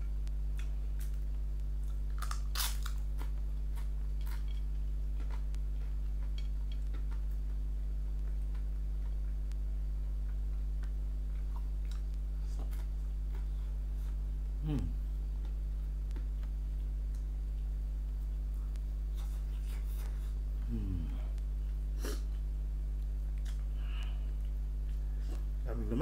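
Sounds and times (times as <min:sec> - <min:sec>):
low electrical hum: 0:00.0 - 0:26.0
person chewing with mouth smacks: 0:00.5 - 0:07.6, 0:10.2 - 0:25.5.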